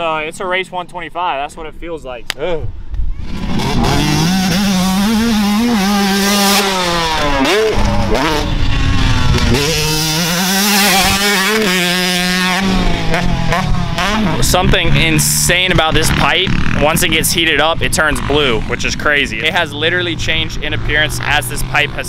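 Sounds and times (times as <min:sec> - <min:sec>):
dirt bike engine revving: 0:03.2 - 0:22.0.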